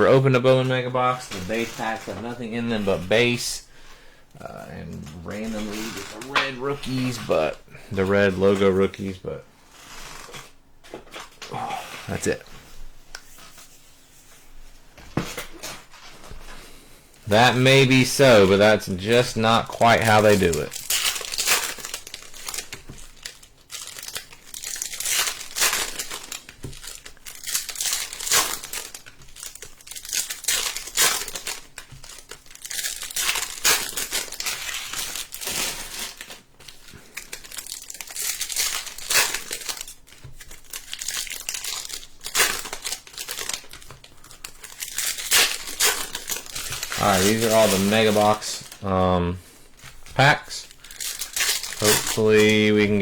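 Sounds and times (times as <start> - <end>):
plastic and foil wrapping crinkling: 0.0 - 53.0.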